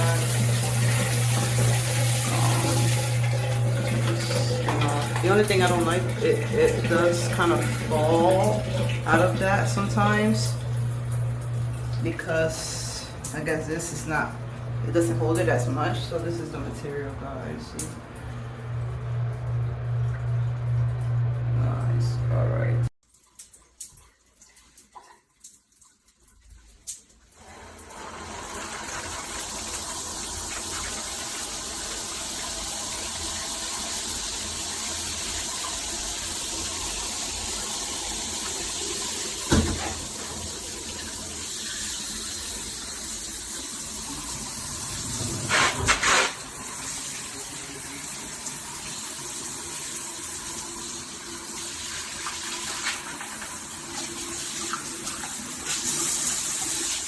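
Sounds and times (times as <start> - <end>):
shower water spraying: 0.0 - 16.6, 27.6 - 57.0.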